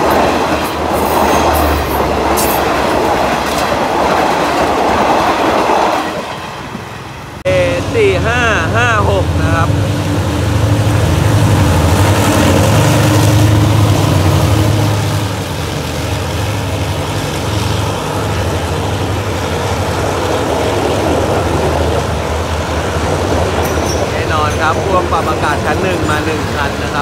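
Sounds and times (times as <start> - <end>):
locomotive engine hum: 0.0 - 27.0
train wheels rumbling on rails: 0.0 - 27.0.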